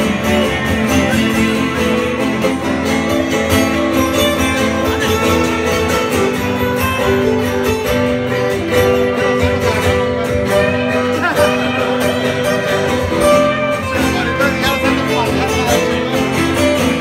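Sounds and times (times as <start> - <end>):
acoustic guitars playing: 0.0 - 17.0.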